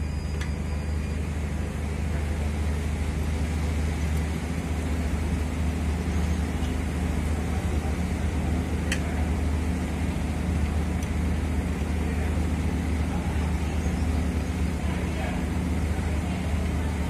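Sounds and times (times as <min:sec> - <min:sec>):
machinery droning: 0:00.0 - 0:17.0.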